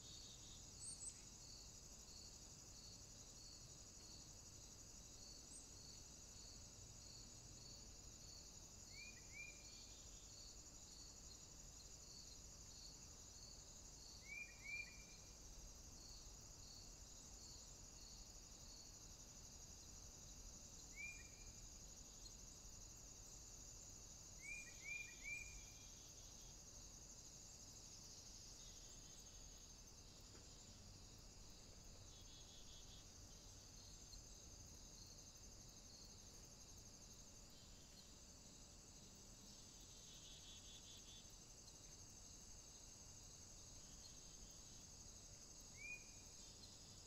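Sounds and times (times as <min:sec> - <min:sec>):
insect chirping: 0:00.0 - 0:47.0
steady high hiss: 0:00.0 - 0:47.0.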